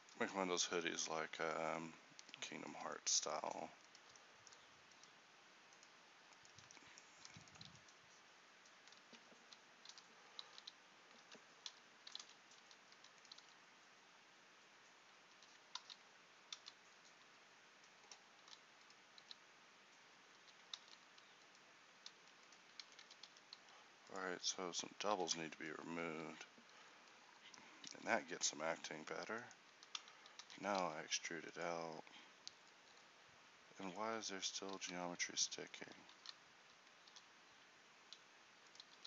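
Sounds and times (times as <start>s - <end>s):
low background hiss: 0.0s - 39.0s.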